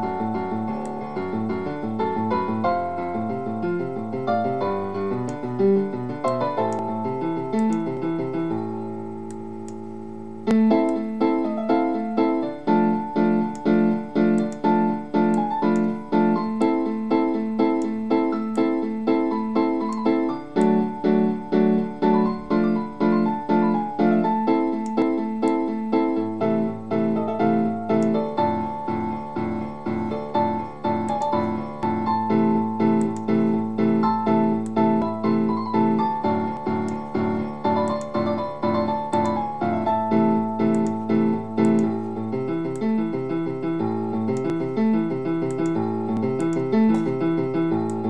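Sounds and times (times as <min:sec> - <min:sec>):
piano chords: 0:00.0 - 0:48.0.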